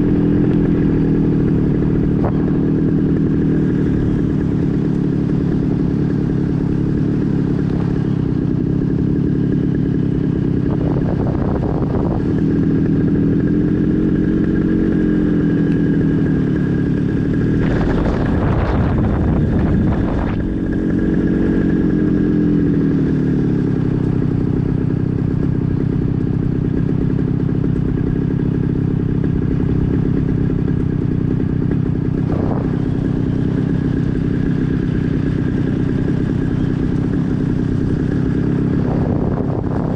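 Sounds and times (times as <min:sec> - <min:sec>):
light aircraft engine idling: 0:00.0 - 0:39.9.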